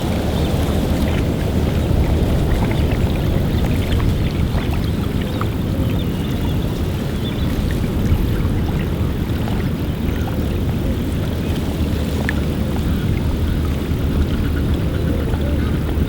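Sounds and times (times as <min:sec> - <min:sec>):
water lapping at shore: 0:00.0 - 0:16.0
wind blowing: 0:00.0 - 0:16.0.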